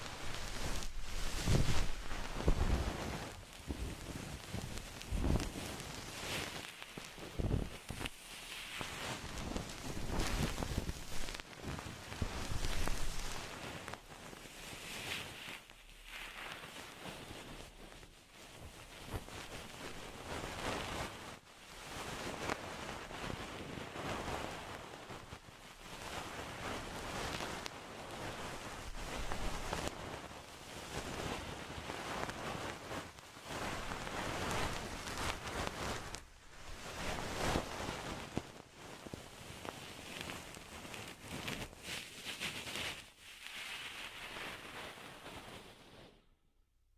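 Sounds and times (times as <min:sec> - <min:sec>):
soft brushing strokes: 0:00.0 - 0:46.4.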